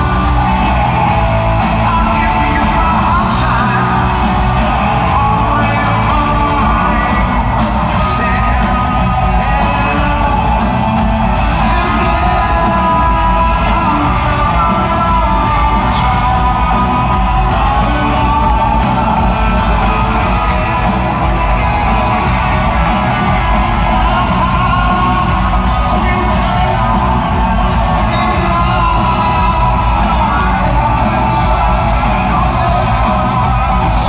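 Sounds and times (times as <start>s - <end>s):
live rock band playing: 0.0s - 34.0s
man singing: 0.0s - 34.0s.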